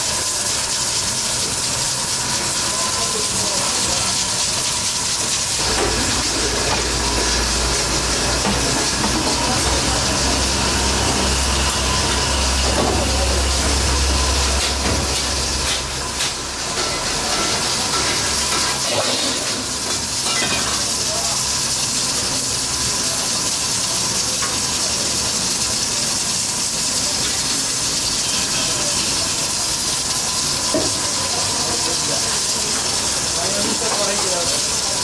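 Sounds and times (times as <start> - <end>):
pressure cookers hissing steam: 0.0 - 35.0.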